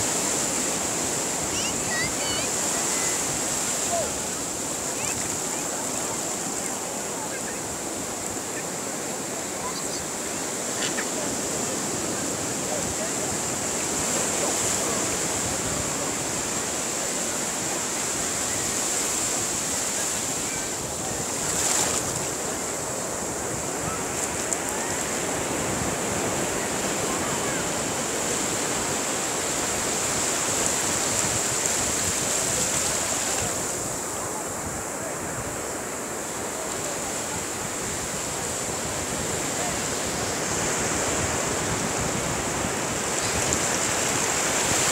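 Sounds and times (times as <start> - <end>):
surf washing over sand: 0.0 - 44.9.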